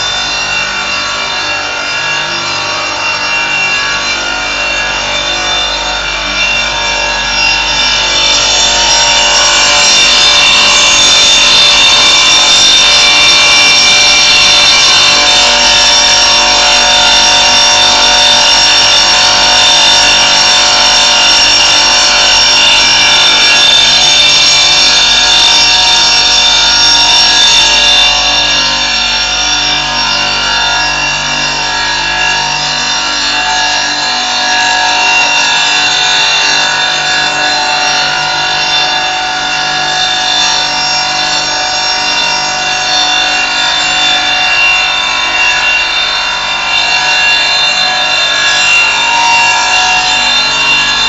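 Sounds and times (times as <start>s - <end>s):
stone grinding machine whine: 0.0s - 51.0s.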